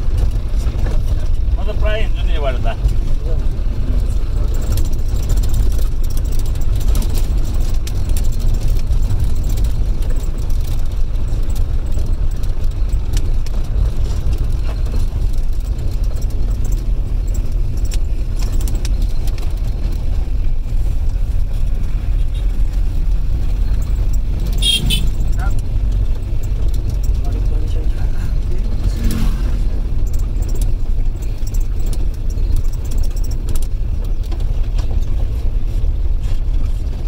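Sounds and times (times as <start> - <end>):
car engine rumble: 0.0 - 37.0
faint clicks and rattles: 0.0 - 37.0
road noise: 0.0 - 37.0.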